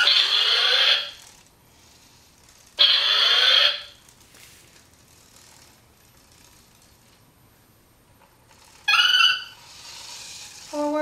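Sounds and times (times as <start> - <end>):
toy robot motors whirring: 0.0 - 7.2, 8.2 - 11.0.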